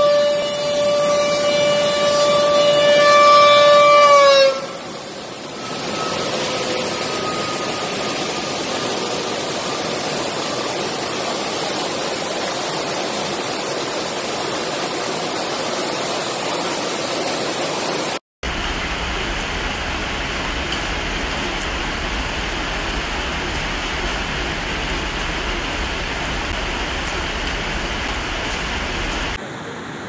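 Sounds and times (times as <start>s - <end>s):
water rushing through spillway: 0.0s - 30.0s.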